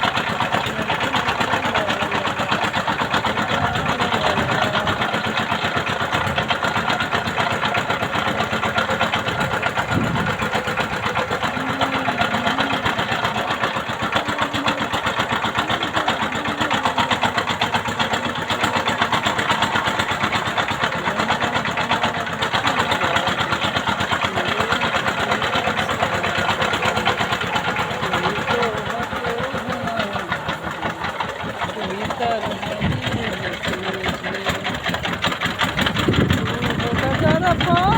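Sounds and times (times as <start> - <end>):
boat engine chugging: 0.0 - 37.9.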